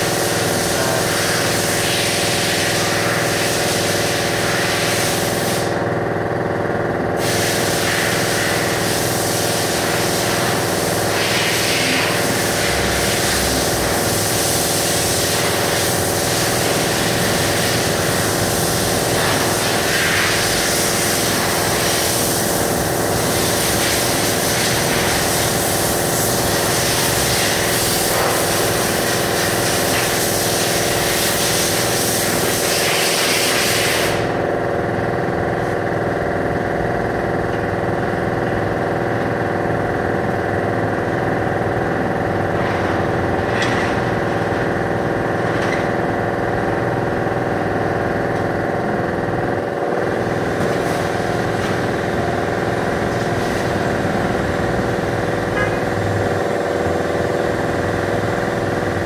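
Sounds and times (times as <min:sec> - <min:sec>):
steady mechanical hum with hiss: 0:00.0 - 0:59.0.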